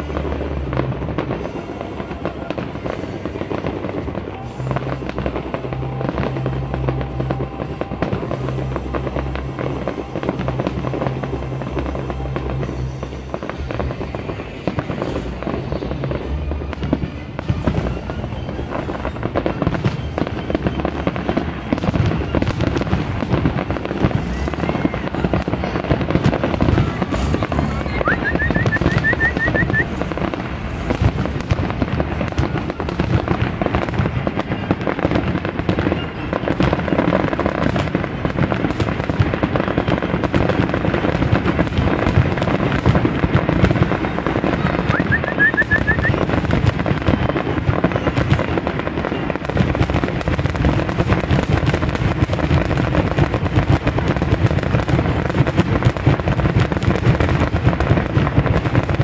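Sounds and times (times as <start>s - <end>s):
fireworks exploding: 0.0s - 59.0s.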